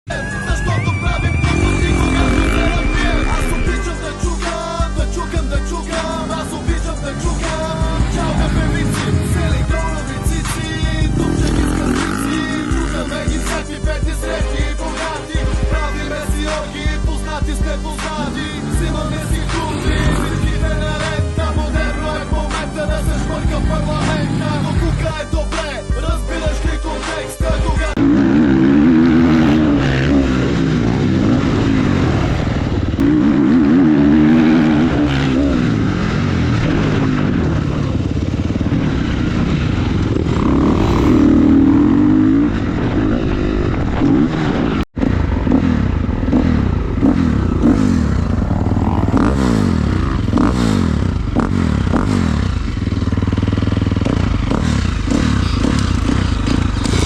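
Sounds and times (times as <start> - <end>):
motorcycle engine revving: 0.3 - 57.0.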